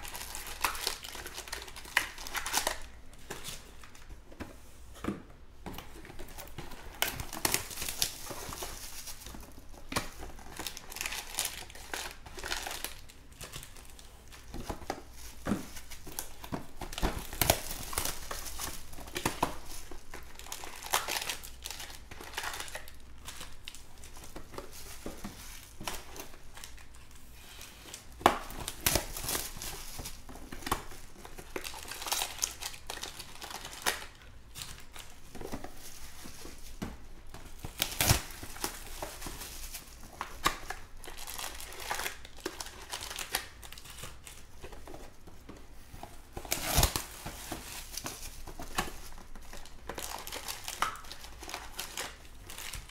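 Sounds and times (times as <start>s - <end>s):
plastic wrap crinkling: 0.0s - 4.4s, 5.7s - 52.9s.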